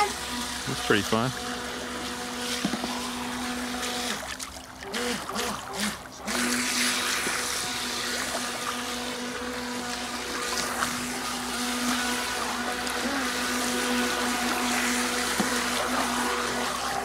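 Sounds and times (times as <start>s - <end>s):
churned water hissing: 0.0s - 17.0s
electric boat motor whine: 0.0s - 17.0s.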